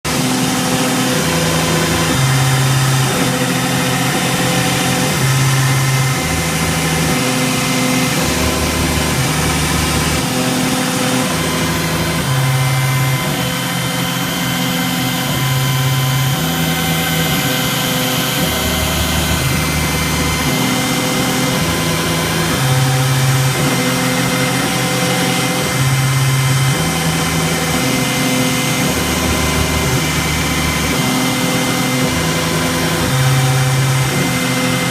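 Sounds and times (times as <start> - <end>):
axis motors changing pitch: 0.1 - 34.9
router spinning whine: 0.1 - 34.9.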